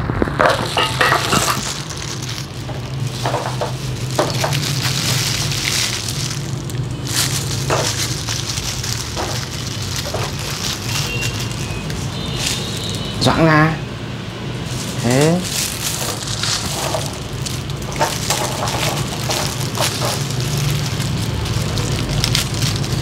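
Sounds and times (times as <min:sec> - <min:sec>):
plastic gloves crinkling: 0:00.0 - 0:13.3, 0:14.4 - 0:23.0.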